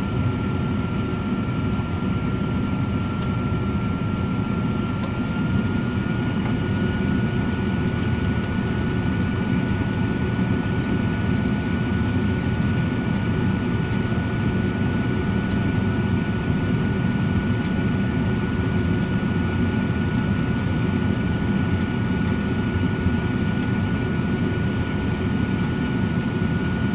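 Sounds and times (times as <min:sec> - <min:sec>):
air fryer fan rush with whine: 0:00.0 - 0:26.9.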